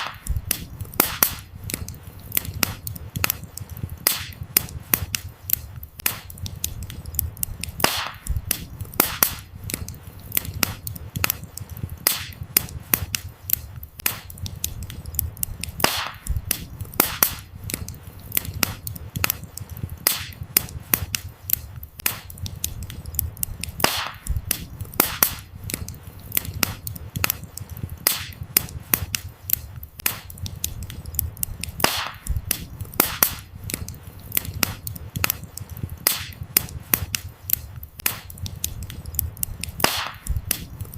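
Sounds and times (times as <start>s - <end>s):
wood fire crackling: 0.0s - 40.9s
low fire rumble: 0.2s - 40.9s.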